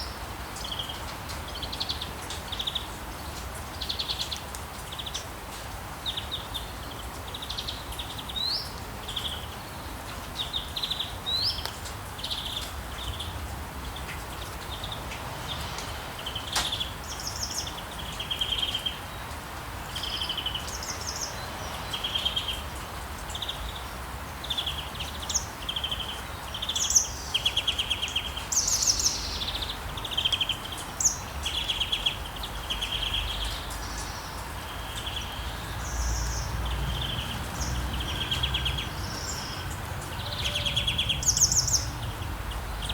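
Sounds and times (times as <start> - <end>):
rain hiss: 0.0 - 42.9
songbirds chirping: 0.0 - 42.9.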